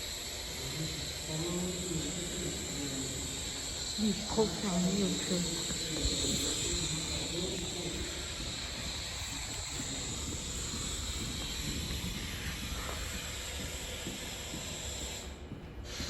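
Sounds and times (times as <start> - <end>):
constant hiss: 0.0 - 16.0
subway train rumble: 0.0 - 16.0.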